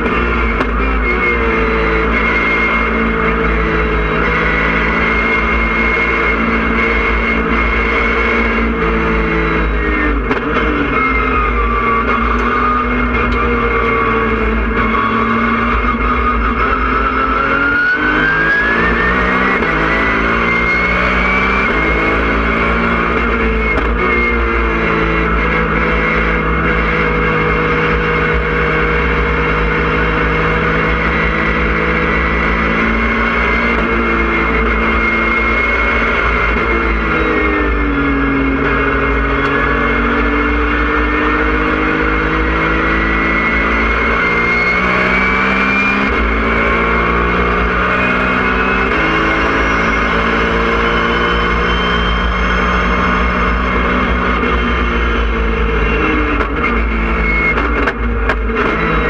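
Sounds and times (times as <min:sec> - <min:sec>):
high engine whine: 0:00.0 - 0:59.0
race car engine revving: 0:00.0 - 0:59.0.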